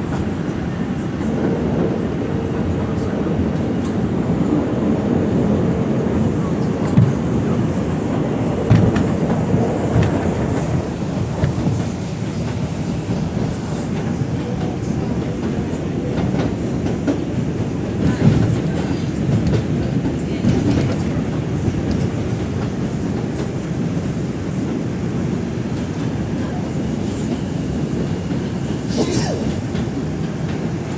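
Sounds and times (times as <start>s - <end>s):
subway wheels rumbling on rail: 0.0s - 30.9s.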